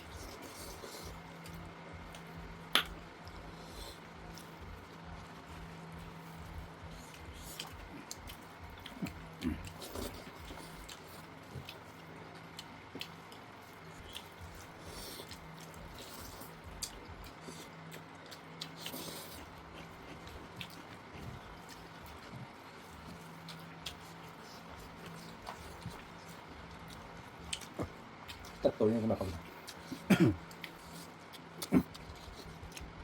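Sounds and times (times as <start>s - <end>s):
chewing with wet smacks: 0.0s - 33.0s.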